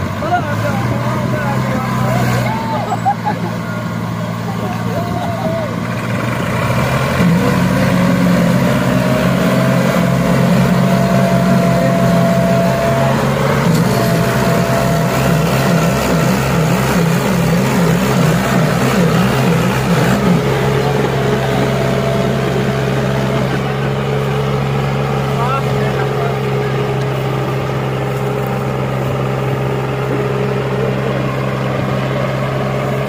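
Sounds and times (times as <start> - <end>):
diesel tractor engines at full throttle: 0.0 - 33.0.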